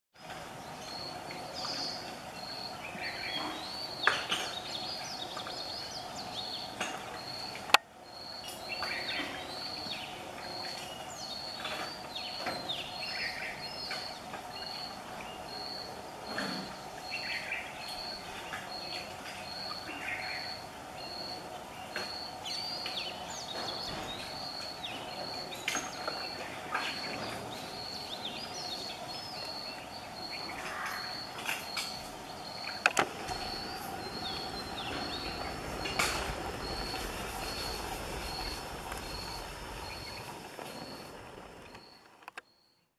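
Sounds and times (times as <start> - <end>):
steady low hum: 0.3 - 42.2.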